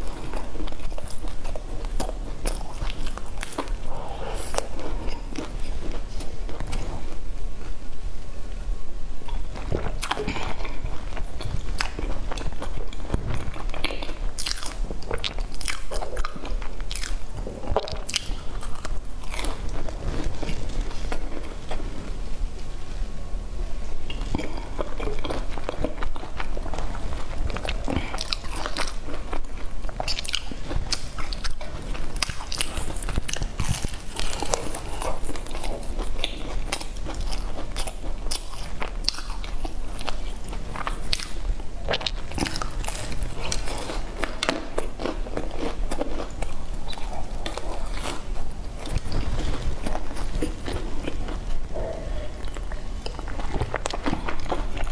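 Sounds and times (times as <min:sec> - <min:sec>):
crunching and chewing flatbread: 0:00.0 - 0:07.8, 0:09.2 - 0:23.1, 0:23.7 - 0:54.9.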